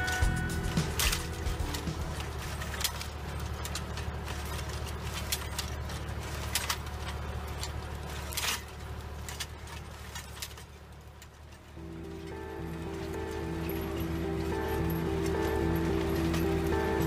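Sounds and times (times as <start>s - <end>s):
disc hoe cutting through soil: 0.0s - 17.0s
sharp metallic clicks and clatters: 0.0s - 17.0s
tractor engine running: 0.0s - 17.0s.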